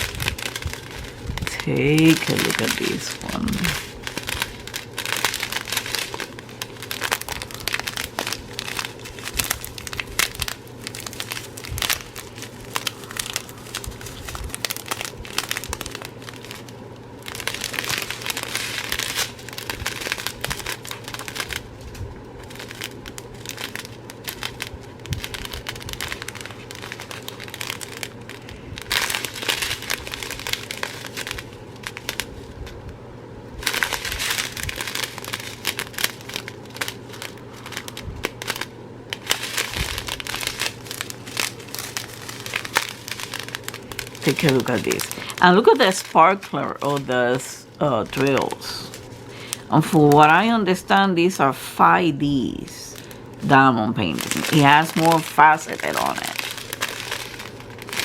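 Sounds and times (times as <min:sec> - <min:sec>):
plastic bags crinkling: 0:00.0 - 0:32.9, 0:33.5 - 0:58.0
steady low hum: 0:00.0 - 0:58.0.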